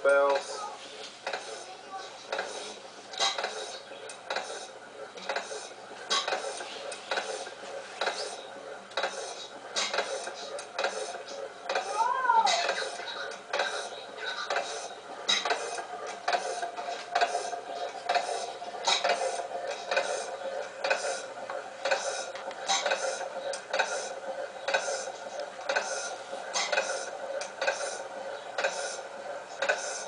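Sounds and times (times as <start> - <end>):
stationary engine clacking: 0.0 - 30.0
valve gear clicks: 0.0 - 30.0.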